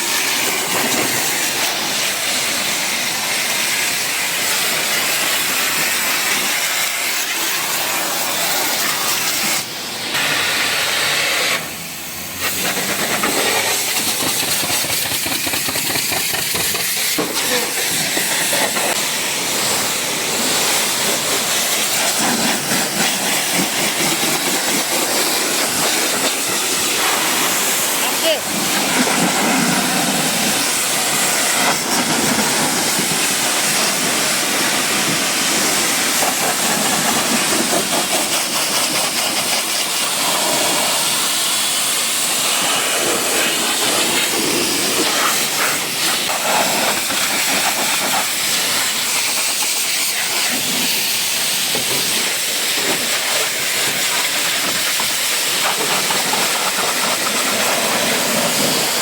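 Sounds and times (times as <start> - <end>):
pressure washer spraying water: 0.0 - 59.0.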